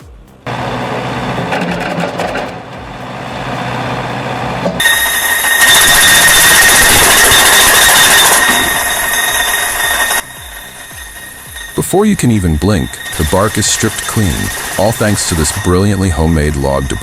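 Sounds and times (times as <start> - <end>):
machinery humming: 0.0 - 17.0
loud grinding with high whine: 0.5 - 17.0.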